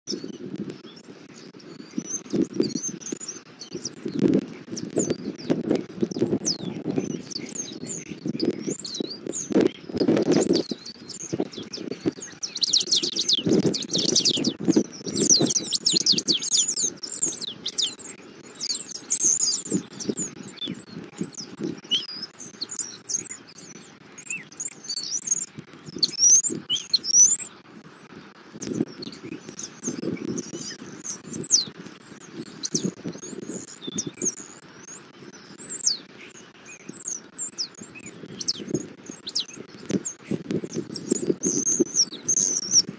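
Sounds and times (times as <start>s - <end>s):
small birds twittering: 0.1s - 42.9s.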